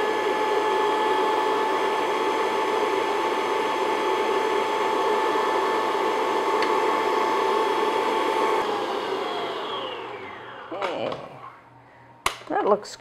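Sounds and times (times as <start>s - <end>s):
stand mixer motor whining: 0.0s - 11.8s.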